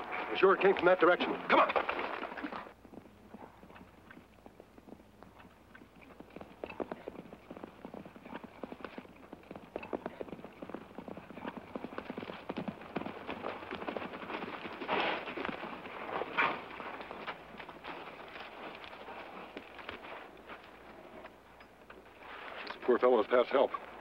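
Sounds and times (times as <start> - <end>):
horses galloping on dry ground: 0.0 - 24.0.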